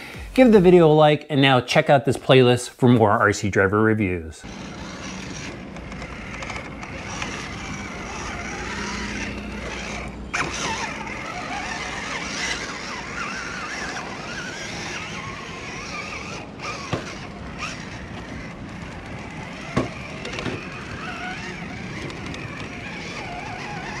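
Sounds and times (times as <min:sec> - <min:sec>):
toy car motor whining: 0:04.4 - 0:24.0.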